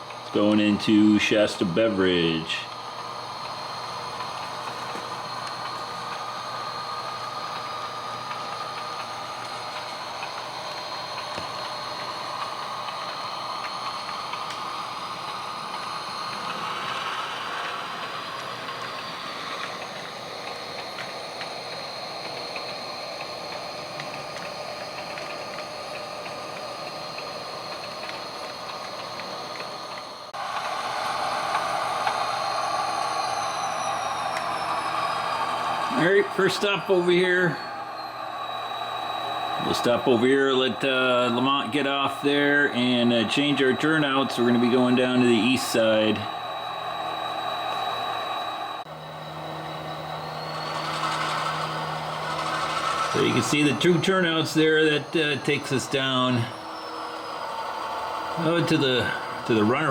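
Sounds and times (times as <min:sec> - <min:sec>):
model train diesel engine sound: 0:00.0 - 0:59.9
model train wheels clicking: 0:00.0 - 0:59.9.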